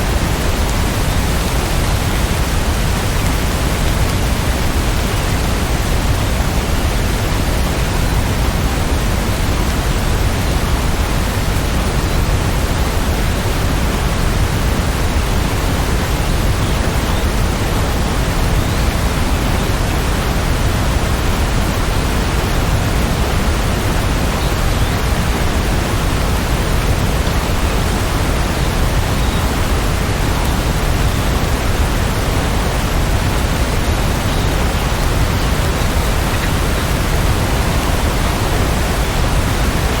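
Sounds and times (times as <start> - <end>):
heavy rain hissing: 0.0 - 40.0.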